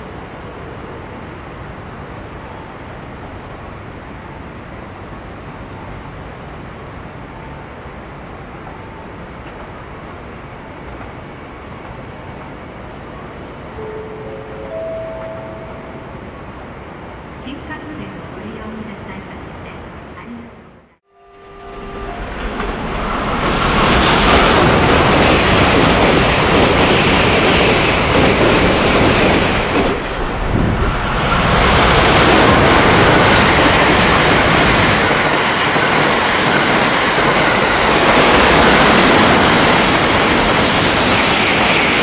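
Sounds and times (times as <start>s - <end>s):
train passing at speed: 0.0s - 42.0s.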